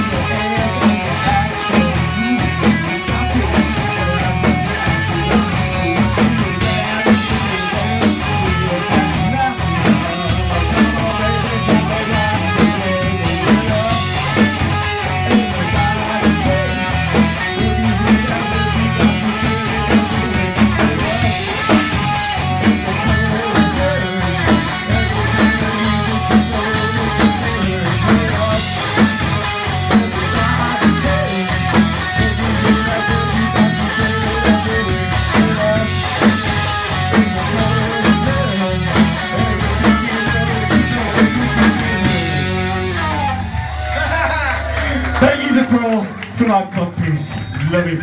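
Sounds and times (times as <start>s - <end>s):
rock band playing: 0.0s - 48.0s.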